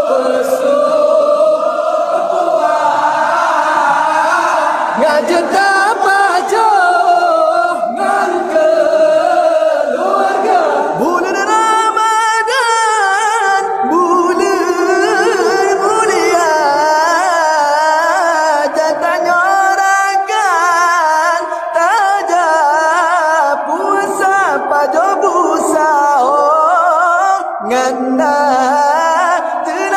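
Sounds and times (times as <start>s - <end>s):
group chanting a song: 0.0s - 29.9s.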